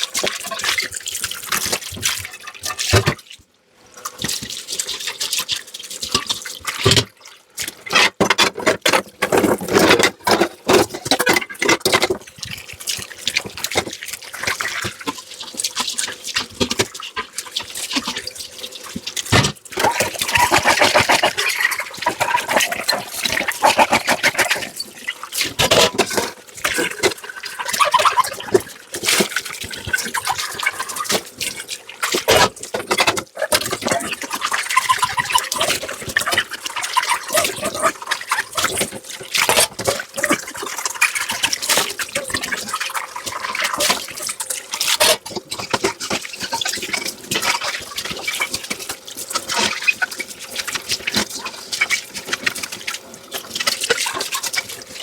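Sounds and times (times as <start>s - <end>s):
water running and splashing: 0.0s - 55.0s.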